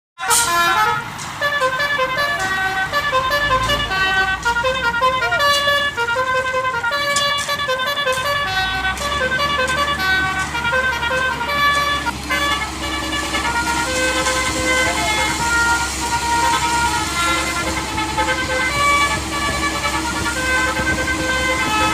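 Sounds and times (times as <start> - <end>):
fast tune of pitched notes: 0.2 - 21.9.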